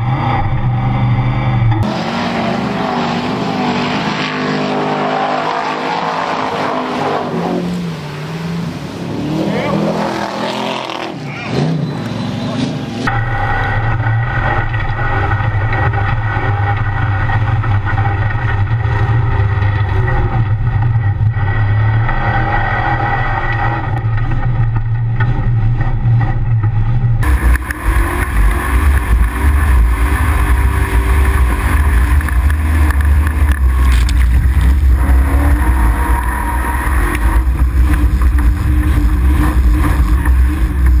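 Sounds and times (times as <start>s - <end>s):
buggy engine running loudly: 0.0s - 41.0s.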